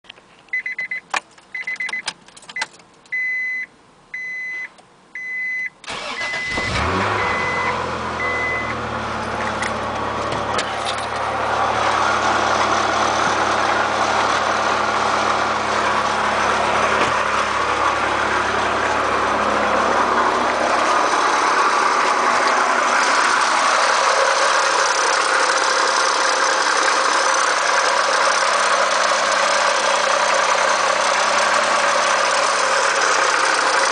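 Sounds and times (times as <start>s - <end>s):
car engine idling: 5.9s - 33.9s.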